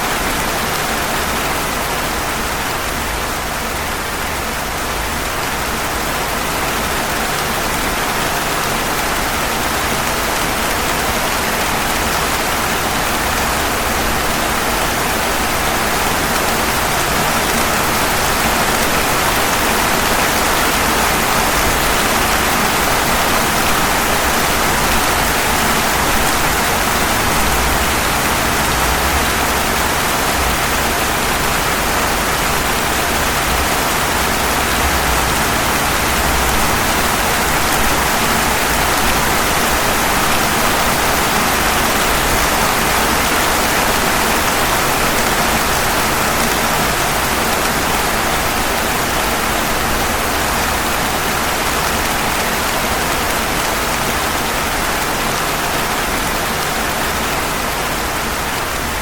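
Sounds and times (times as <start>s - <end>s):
rain falling on pavement: 0.0s - 59.0s.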